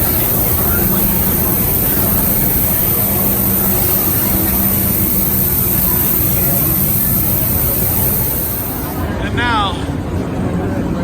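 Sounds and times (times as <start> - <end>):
faint crowd murmur: 0.0 - 11.0
low engine-like hum: 0.0 - 11.0.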